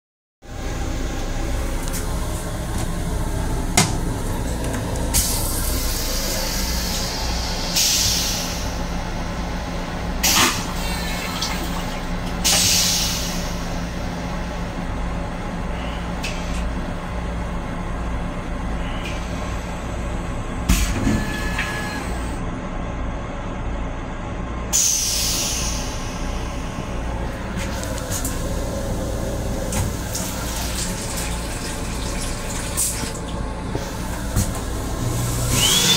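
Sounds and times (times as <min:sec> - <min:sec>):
train rumble: 0:00.5 - 0:22.6, 0:23.4 - 0:35.8.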